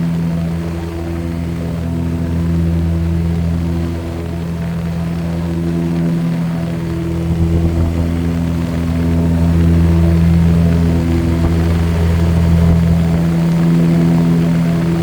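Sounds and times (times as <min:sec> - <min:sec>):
propeller airplane engine drone: 0:00.0 - 0:15.0.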